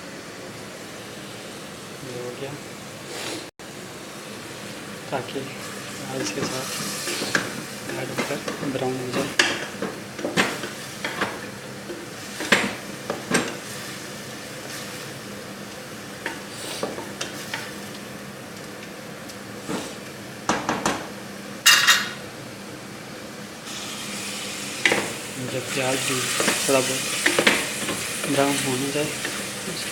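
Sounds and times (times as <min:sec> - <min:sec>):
chicken and onion sizzling in a pan: 0:00.0 - 0:22.3, 0:23.5 - 0:29.9.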